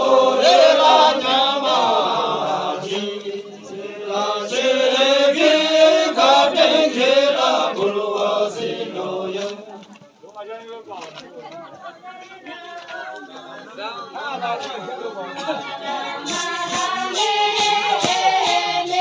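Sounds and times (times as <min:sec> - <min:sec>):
voices chanting: 0:00.0 - 0:09.9, 0:11.6 - 0:19.0.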